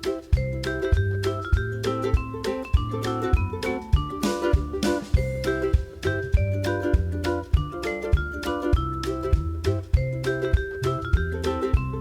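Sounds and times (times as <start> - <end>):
mallet percussion music with beat: 0.0 - 12.0.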